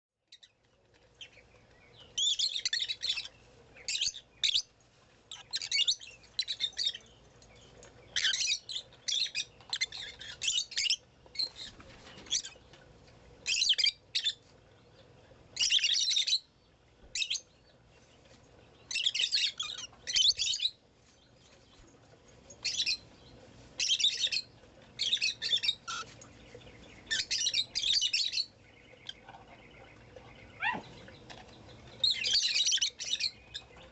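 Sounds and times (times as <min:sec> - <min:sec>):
bird chirping: 0:00.3 - 0:12.8, 0:13.4 - 0:33.9.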